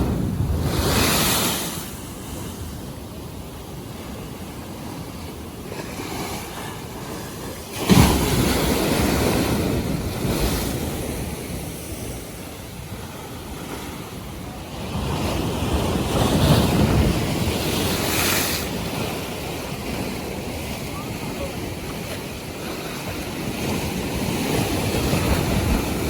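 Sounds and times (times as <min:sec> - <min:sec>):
waves surging and washing: 0:00.0 - 0:26.0
wind buffeting microphone: 0:00.0 - 0:26.0.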